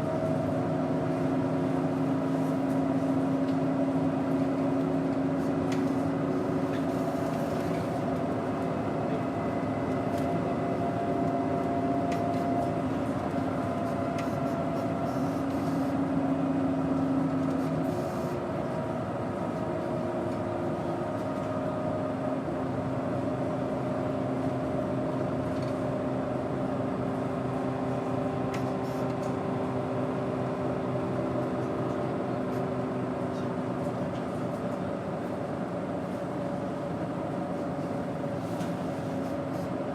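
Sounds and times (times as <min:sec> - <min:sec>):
bus engine droning: 0:00.0 - 0:39.9.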